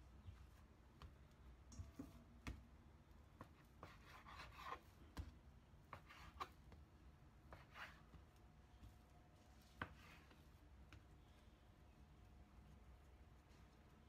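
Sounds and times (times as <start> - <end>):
dough rubbing and rustling: 0.0 - 14.0.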